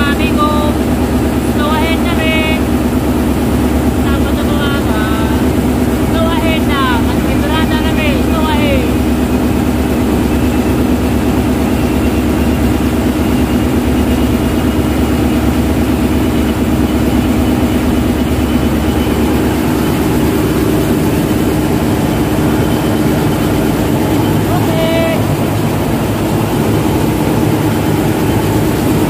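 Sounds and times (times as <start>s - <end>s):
diesel engines droning: 0.0s - 29.0s.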